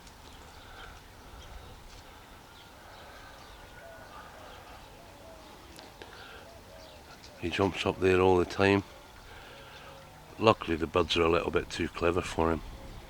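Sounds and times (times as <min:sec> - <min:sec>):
distant birds chirping: 0:00.0 - 0:13.0
low repeated bird calls: 0:00.0 - 0:13.0.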